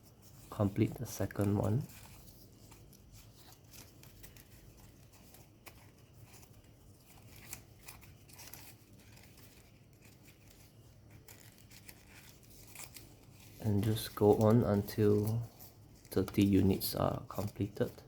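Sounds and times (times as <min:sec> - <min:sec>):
paper rustles and crackles: 0:00.0 - 0:18.0.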